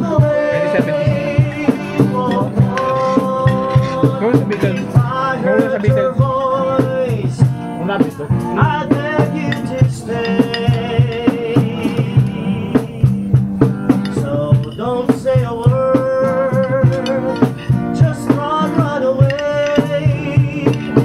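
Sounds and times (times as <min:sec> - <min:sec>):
steady drum beat: 0:00.0 - 0:21.0.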